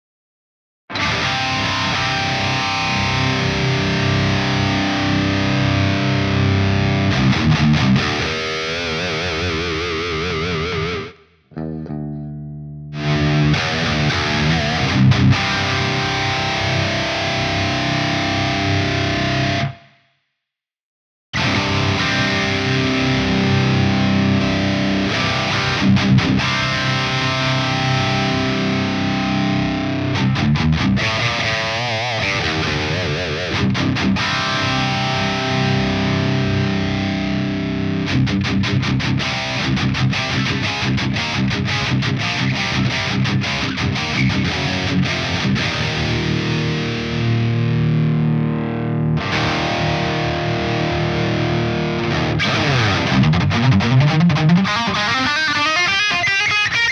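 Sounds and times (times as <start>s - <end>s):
distorted electric guitar: 0.9s - 19.9s, 21.4s - 56.9s.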